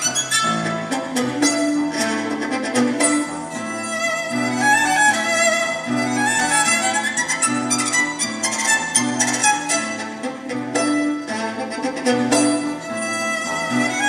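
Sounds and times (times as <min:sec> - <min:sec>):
orchestral accompaniment: 0:00.0 - 0:14.0
solo violin melody: 0:00.0 - 0:14.0.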